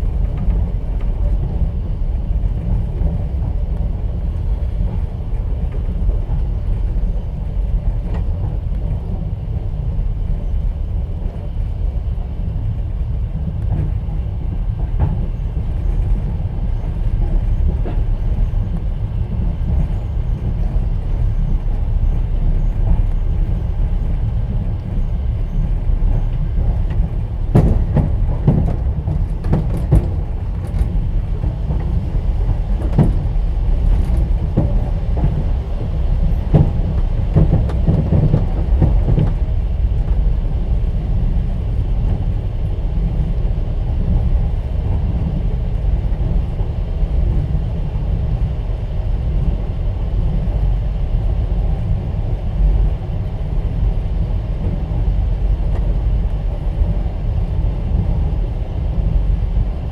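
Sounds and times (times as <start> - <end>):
train carriage rumbling: 0.0 - 59.9.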